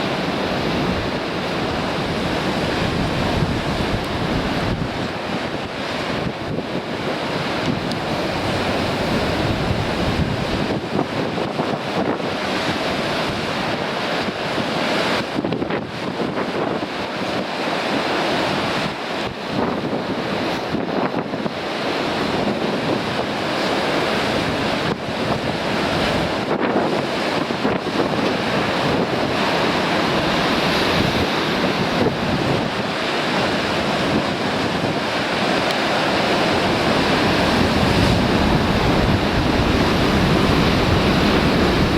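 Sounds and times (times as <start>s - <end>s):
wind buffeting microphone: 0.0s - 17.5s, 18.4s - 41.9s
surf breaking on rocks: 0.0s - 41.9s.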